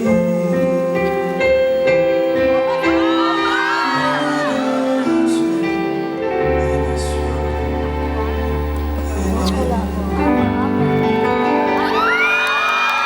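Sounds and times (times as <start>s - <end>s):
ballad accompaniment chords: 0.0s - 13.0s.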